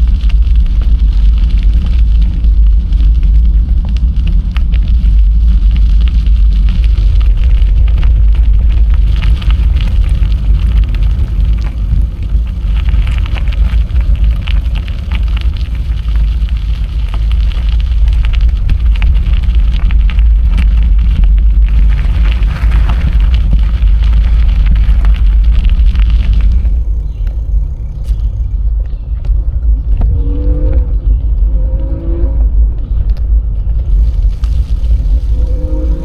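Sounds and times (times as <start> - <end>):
bicycle rolling crackle: 0.0 - 36.0
wind rumble on microphone: 0.0 - 36.0.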